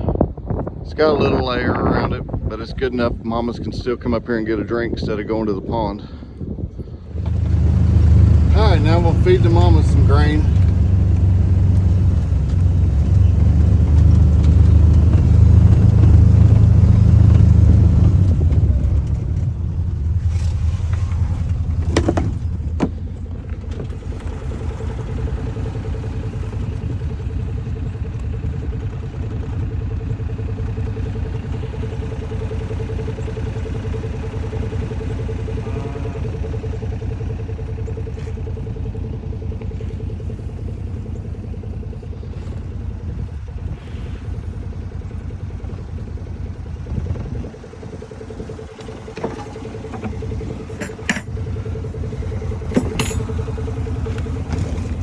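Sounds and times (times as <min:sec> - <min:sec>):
farm vehicle engine running: 0:00.0 - 0:55.0.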